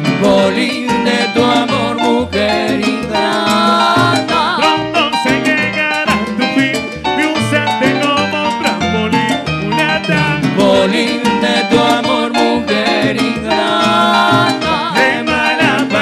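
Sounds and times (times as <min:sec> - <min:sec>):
percussion and bass rhythm: 0:00.0 - 0:16.0
salsa band playing: 0:00.0 - 0:16.0.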